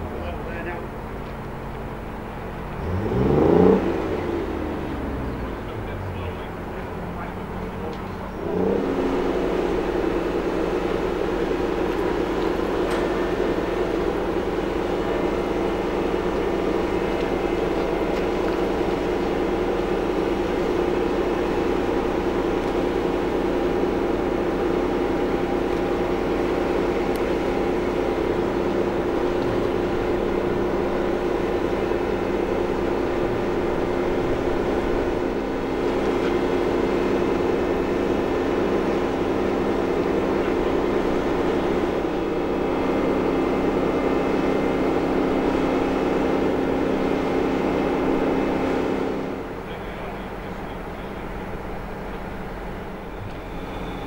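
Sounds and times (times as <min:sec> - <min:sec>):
crane diesel engine running: 0:00.0 - 0:54.0.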